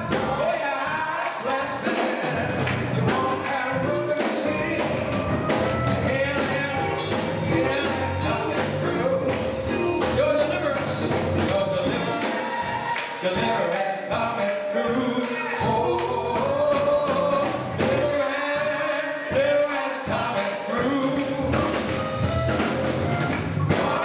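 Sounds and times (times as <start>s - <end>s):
gospel choir singing: 0.0s - 24.0s
instrumental accompaniment: 0.0s - 24.0s
tambourine beat: 0.0s - 24.0s.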